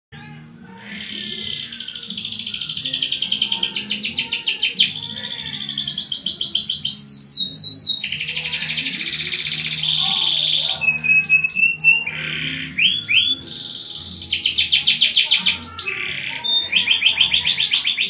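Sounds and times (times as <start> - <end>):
canary singing trills: 0.1 - 18.0.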